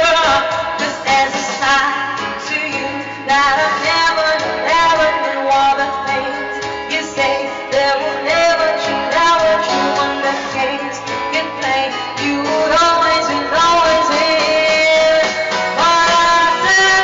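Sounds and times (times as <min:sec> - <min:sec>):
guitar: 0:00.0 - 0:17.0
woman singing: 0:00.0 - 0:17.0.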